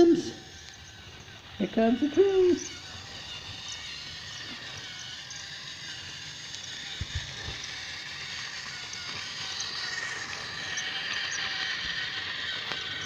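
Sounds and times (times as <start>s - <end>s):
toy train whirring and rattling: 0.0s - 13.0s.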